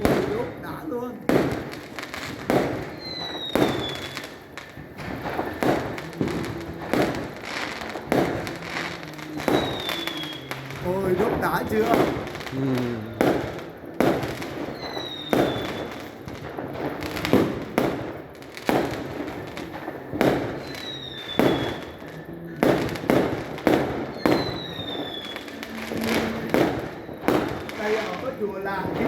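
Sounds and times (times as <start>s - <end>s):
fireworks bangs: 0.0s - 29.0s
falling firework whistles: 1.3s - 29.0s.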